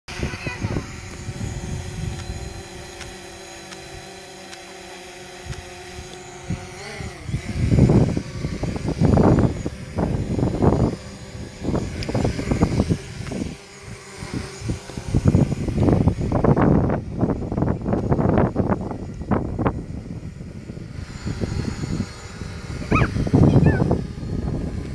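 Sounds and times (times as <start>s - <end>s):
wind buffeting microphone: 0.1s - 4.2s, 5.3s - 24.9s
drone propellers humming: 0.1s - 24.9s.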